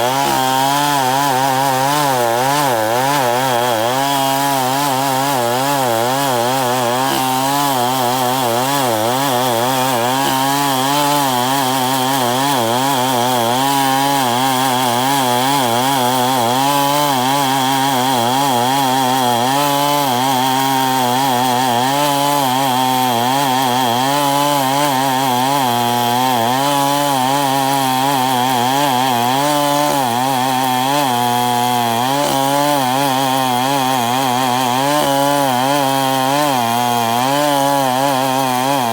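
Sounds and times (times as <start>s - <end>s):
chainsaw cutting timber: 0.0s - 38.9s.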